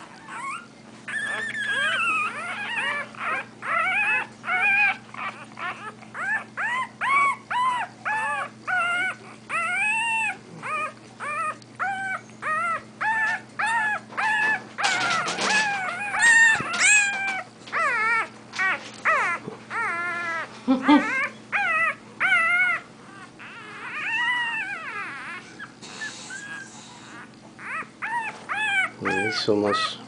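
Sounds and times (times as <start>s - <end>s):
puppies whimpering: 0.0s - 30.0s.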